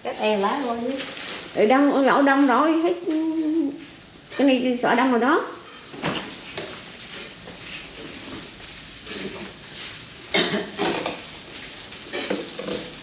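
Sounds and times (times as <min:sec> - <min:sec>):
indistinct household noise: 0:00.0 - 0:13.0.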